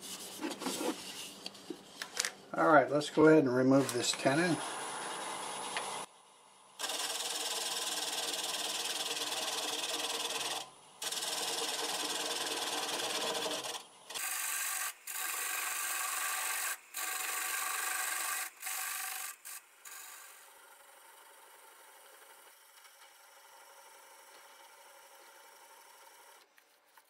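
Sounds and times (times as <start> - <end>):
lathe tool scraping wood: 3.7 - 6.1, 6.8 - 26.4.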